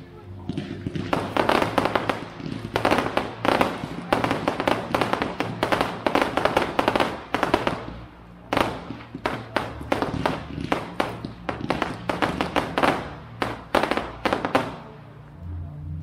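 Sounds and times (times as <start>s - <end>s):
fireworks crackling and banging: 0.0s - 15.2s.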